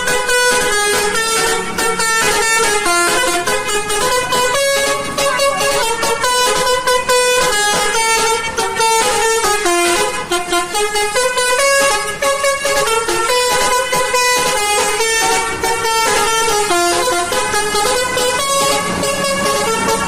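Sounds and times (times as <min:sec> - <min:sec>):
musical air horns playing melody: 0:00.0 - 0:20.0.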